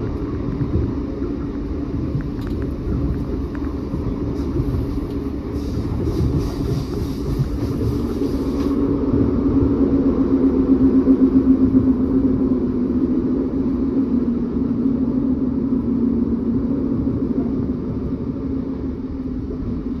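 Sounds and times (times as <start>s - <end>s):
diesel train engine drone: 0.0s - 20.0s
train running gear rumble: 0.0s - 20.0s.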